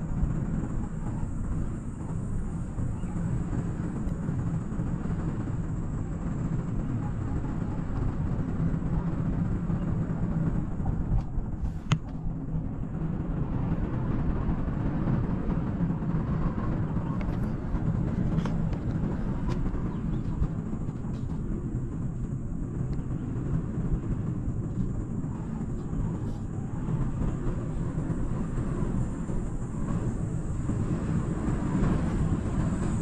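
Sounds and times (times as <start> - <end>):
cable car rumble: 0.0 - 33.0.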